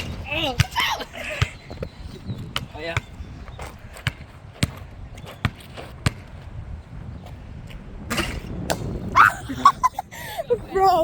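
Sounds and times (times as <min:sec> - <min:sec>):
basketball bouncing on hard ground: 0:00.0 - 0:09.1
wind rumble on microphone: 0:00.0 - 0:11.0.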